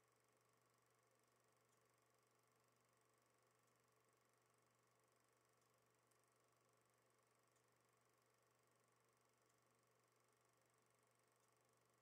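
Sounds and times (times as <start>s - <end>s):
faint low hum and hiss: 0.0s - 12.0s.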